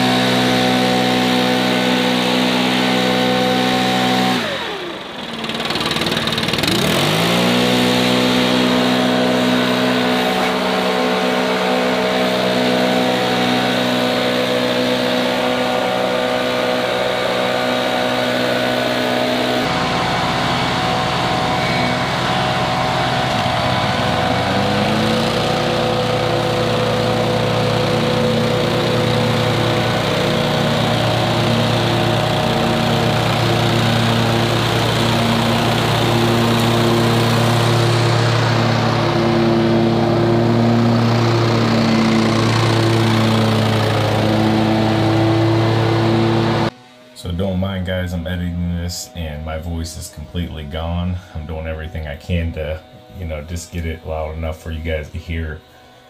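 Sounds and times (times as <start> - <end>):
lawn mower engine running: 0.0 - 47.0, 47.8 - 56.0.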